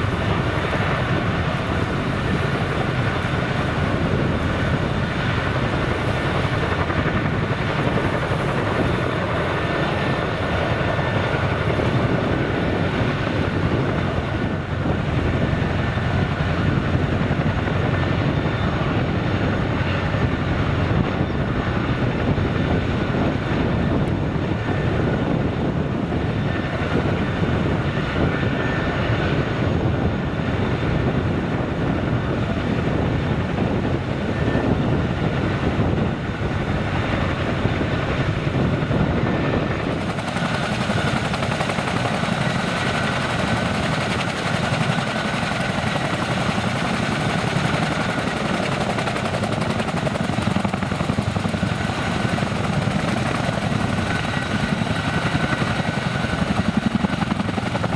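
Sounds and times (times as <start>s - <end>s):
helicopter rotor wash: 0.0s - 57.9s
turbine whine: 0.0s - 57.9s.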